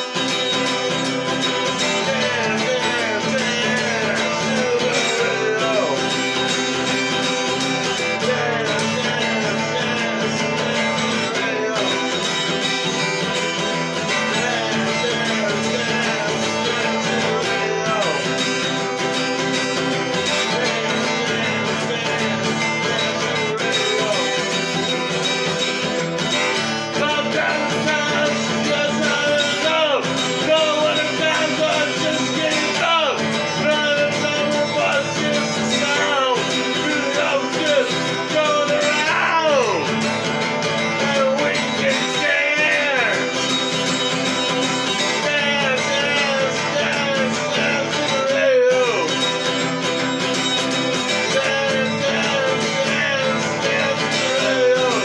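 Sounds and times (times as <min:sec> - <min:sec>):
acoustic guitar strumming: 0:00.0 - 0:55.0
man singing: 0:00.0 - 0:55.0.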